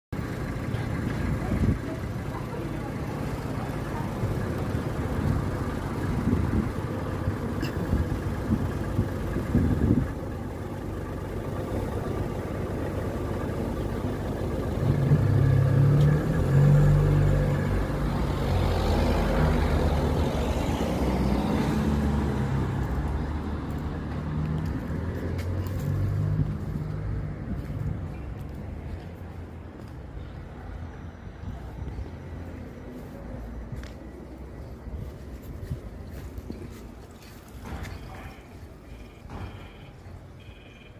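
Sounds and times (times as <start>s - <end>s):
vehicle engine running: 0.1s - 40.8s.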